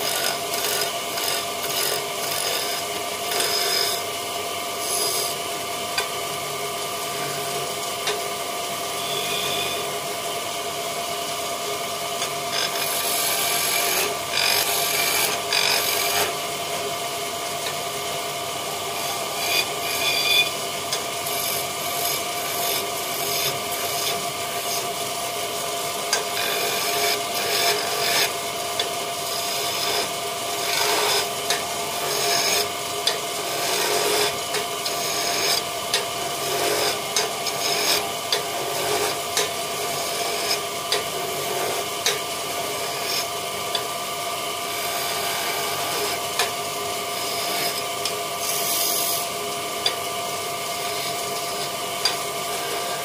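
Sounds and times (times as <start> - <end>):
wood lathe whining: 0.0 - 53.0.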